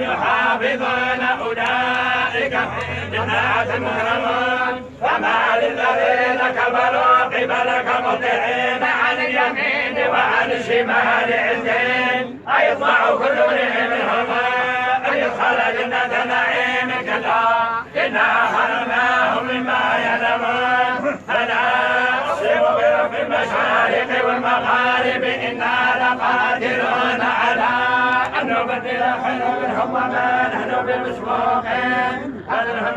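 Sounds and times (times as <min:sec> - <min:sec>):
men chanting in unison: 0:00.0 - 0:32.9.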